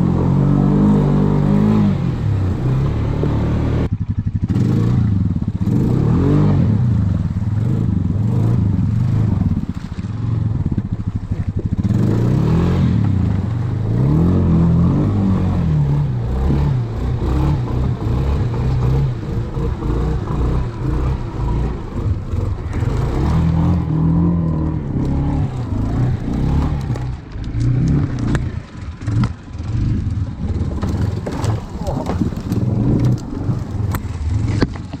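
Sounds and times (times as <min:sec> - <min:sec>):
quad bike engine revving: 0:00.0 - 0:35.0.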